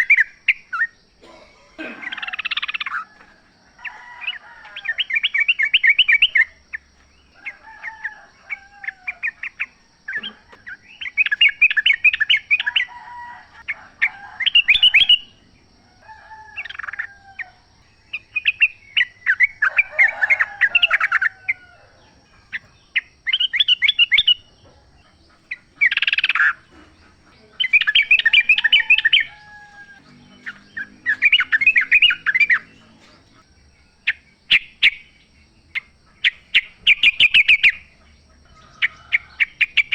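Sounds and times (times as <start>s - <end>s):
bulbuls singing: 0.0s - 39.9s.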